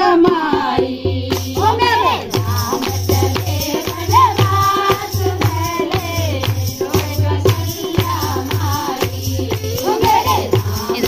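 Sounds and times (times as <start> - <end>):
percussion: 0.0 - 11.0
women singing folk song: 0.0 - 11.0
rhythmic hand clapping: 0.3 - 11.0.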